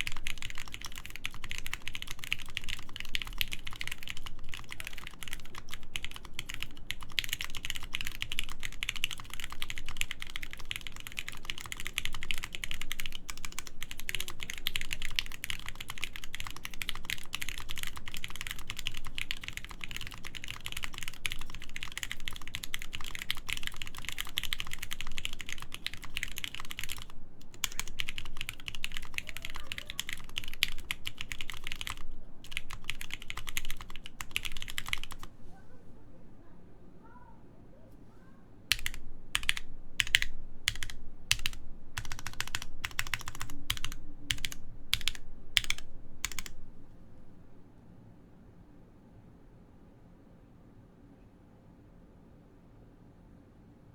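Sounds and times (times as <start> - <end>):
fast typing on mechanical keyboard: 0.0 - 35.3, 38.7 - 46.6.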